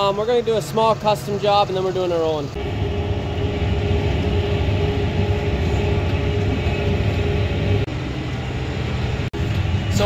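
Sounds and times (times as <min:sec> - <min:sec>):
tractor and mower droning: 0:00.0 - 0:10.0
mower drive hum: 0:00.1 - 0:10.0.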